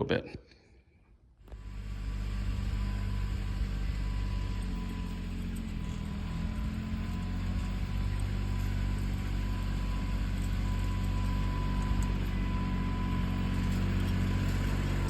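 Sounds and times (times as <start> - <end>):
electric lawn mower humming: 1.4 - 15.0.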